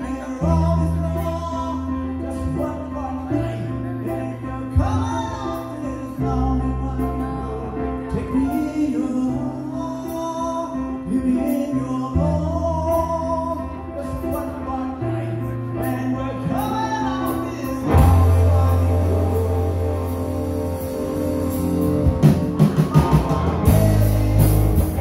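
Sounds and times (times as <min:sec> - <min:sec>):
live rock band: 0:00.0 - 0:25.0
person singing: 0:00.0 - 0:25.0.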